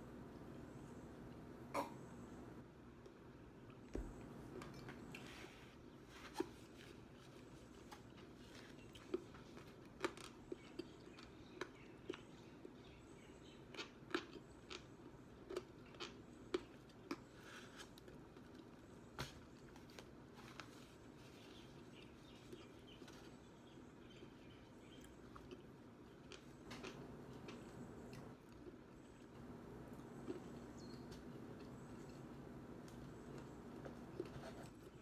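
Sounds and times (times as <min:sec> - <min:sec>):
crunchy chewing: 0:06.3 - 0:35.0.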